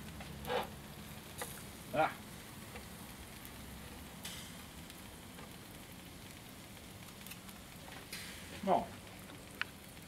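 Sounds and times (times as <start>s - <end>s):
meat sizzling on grill: 0.0s - 10.0s.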